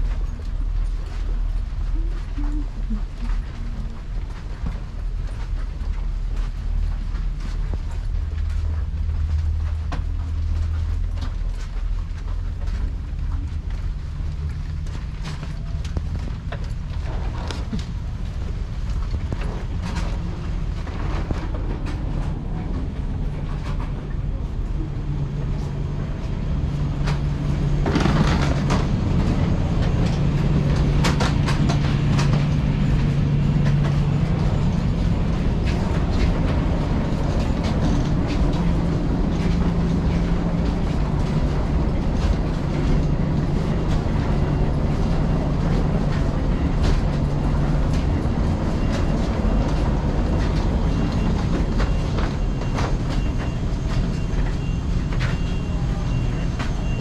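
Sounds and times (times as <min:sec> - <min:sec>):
footsteps knocks and clicks: 0:00.0 - 0:24.3, 0:24.9 - 0:57.0
low mechanical hum: 0:00.0 - 0:57.0.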